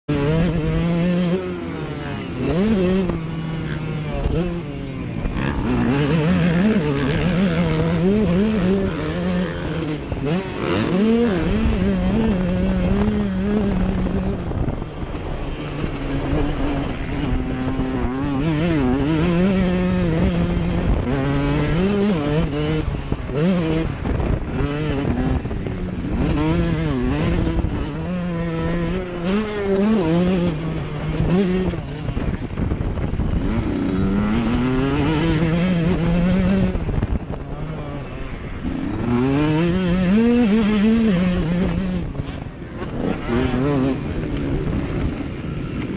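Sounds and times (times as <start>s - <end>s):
motocross engines revving: 0.0s - 45.9s.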